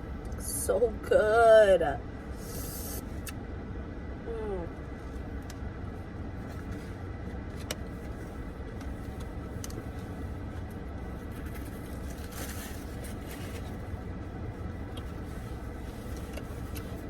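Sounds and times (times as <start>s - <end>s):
car air conditioning hum: 0.0s - 17.0s.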